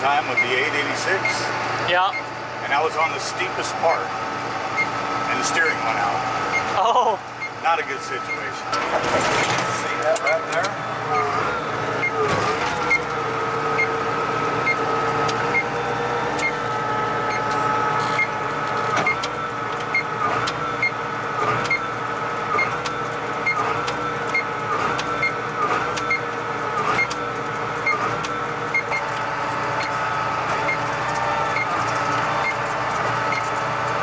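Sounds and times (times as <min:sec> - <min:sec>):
tractor engine whining: 0:00.0 - 0:34.0.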